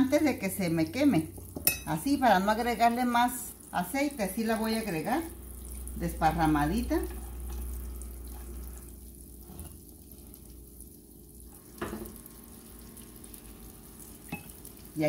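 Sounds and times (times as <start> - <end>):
onion sizzling in a frying pan: 0.0 - 15.0.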